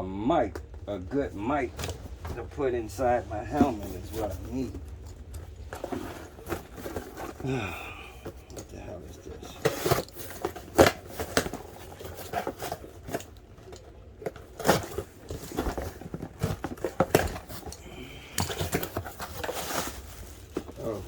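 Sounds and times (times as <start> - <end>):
packaging crinkling and tearing: 3.7 - 21.0.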